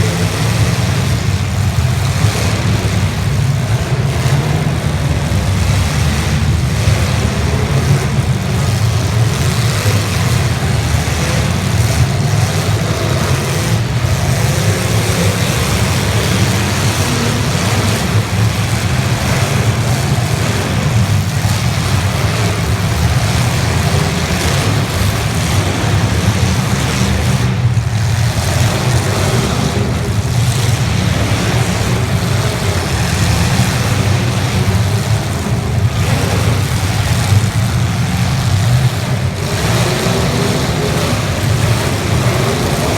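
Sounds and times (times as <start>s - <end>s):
car engines revving together: 0.0s - 42.9s.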